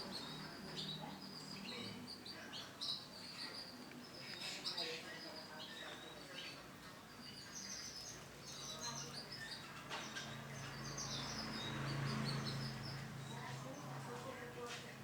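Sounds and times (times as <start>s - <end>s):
canary chirping: 0.0s - 13.9s.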